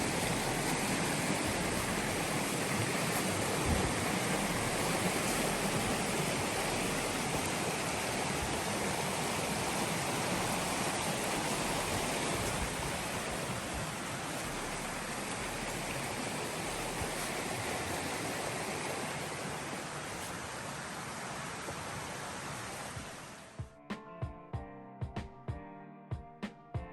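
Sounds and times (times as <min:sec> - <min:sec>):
waterfall rushing: 0:00.0 - 0:23.6.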